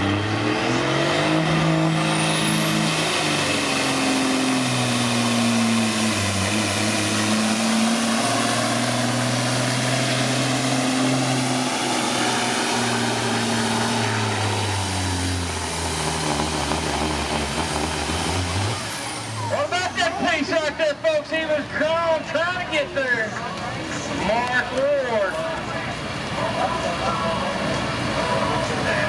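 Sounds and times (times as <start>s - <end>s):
truck diesel engine at full throttle: 0.0s - 22.2s, 23.3s - 29.0s.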